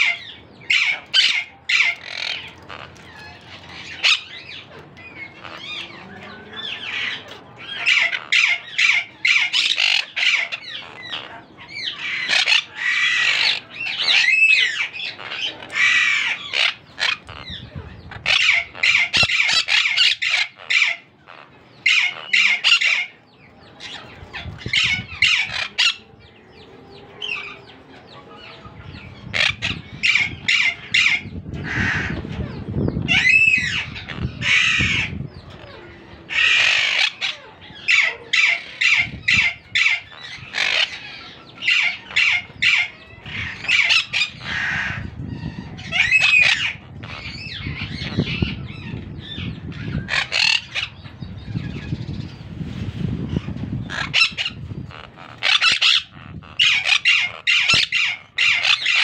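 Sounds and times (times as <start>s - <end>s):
parrot squawking: 0.0s - 23.2s, 23.8s - 26.1s, 28.6s - 51.9s, 53.4s - 59.0s.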